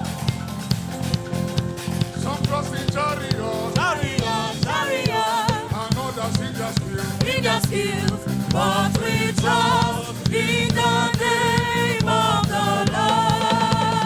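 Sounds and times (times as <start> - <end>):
band with drums: 0.0 - 14.0
person singing: 2.2 - 14.0.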